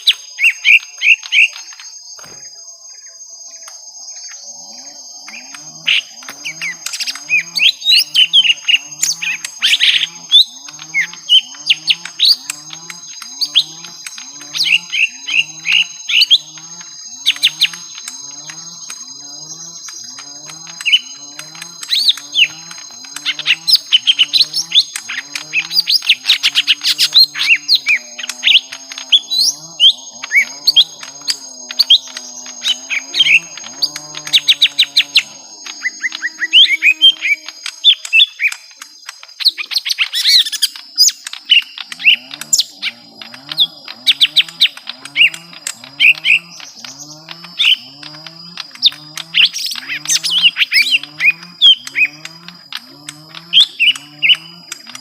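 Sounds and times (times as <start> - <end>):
birds chirping and trilling: 0.0 - 55.0
thin high buzz: 0.0 - 55.0.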